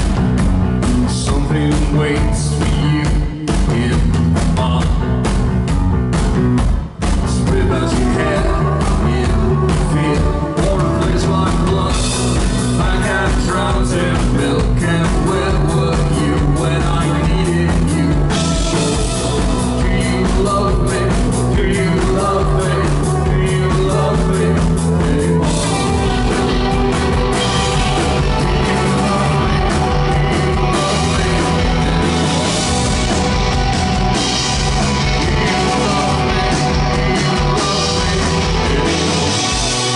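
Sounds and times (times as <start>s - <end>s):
drums: 0.0s - 39.9s
electric guitars: 0.0s - 39.9s.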